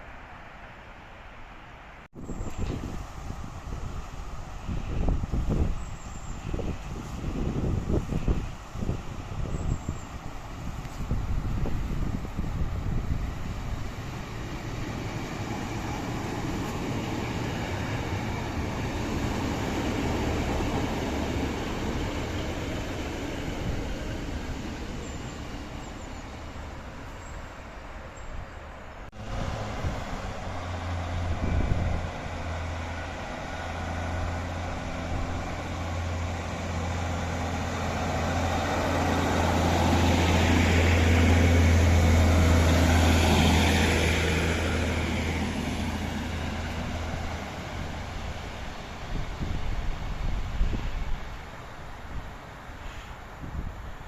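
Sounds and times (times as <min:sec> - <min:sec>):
train rumbling by: 0:00.0 - 0:54.0
diesel engine drone: 0:10.1 - 0:53.9.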